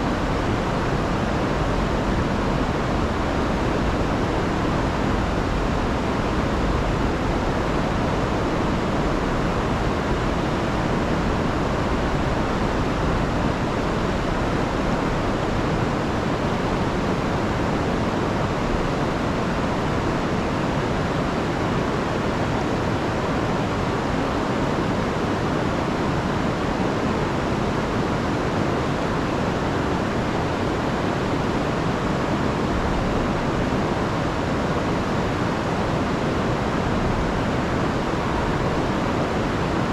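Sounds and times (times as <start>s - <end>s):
river rushing over waterfalls: 0.0s - 39.9s.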